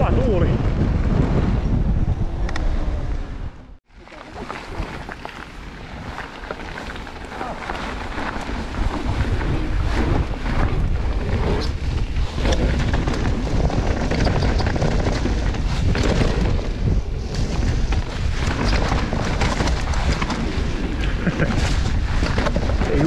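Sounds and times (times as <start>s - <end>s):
bike tyres rumbling: 0.0s - 23.0s
wind noise on microphone: 0.0s - 23.0s
bike knocking and rattling: 4.1s - 23.0s.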